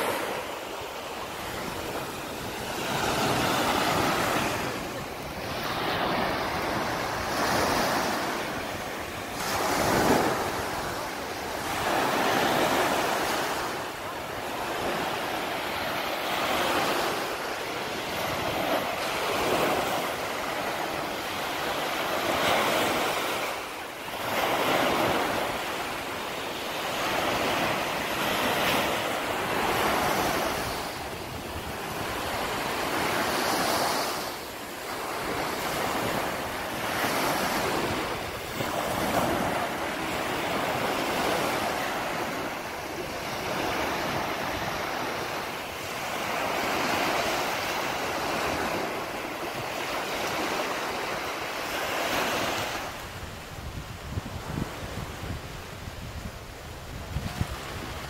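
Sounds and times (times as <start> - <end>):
waves washing up beach: 0.0 - 58.0.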